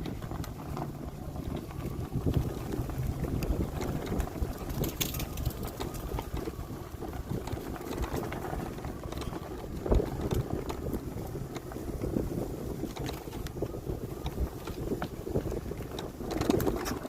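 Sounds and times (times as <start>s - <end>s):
tyres rumbling over dirt track: 0.0s - 17.0s
wind buffeting microphone: 0.0s - 17.0s.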